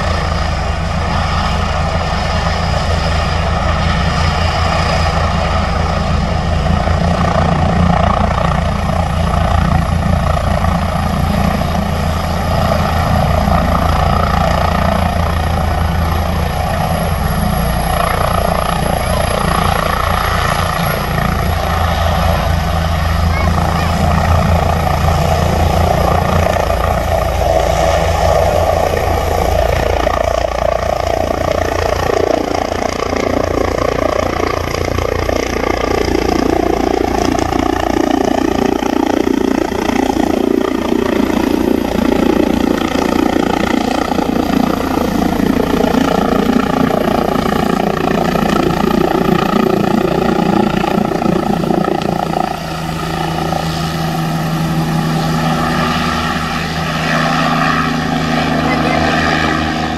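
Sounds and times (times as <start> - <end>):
helicopter rotor beat: 0.0 - 59.9
helicopter turbine whine: 0.0 - 59.9.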